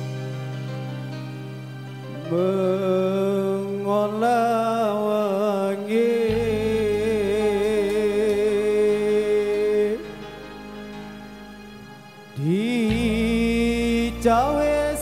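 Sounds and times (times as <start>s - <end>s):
low drone and bass: 0.0s - 15.0s
slow melody with vibrato: 0.0s - 15.0s.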